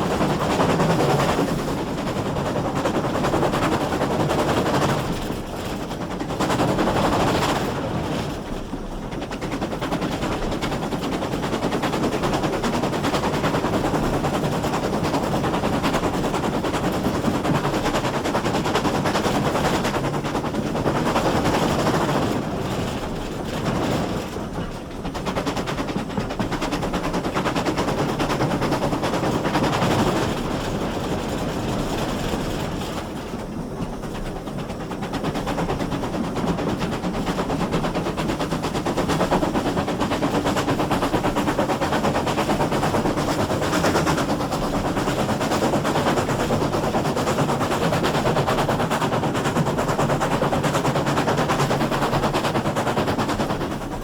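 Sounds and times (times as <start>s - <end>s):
steam train wheels clattering: 0.0s - 54.0s.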